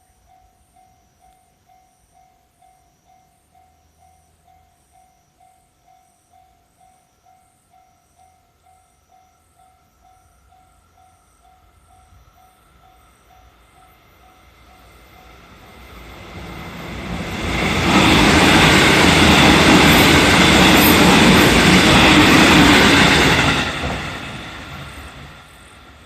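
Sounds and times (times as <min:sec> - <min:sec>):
crossing warning bell: 0:00.0 - 0:26.0
electric train rumbling past: 0:00.0 - 0:26.0.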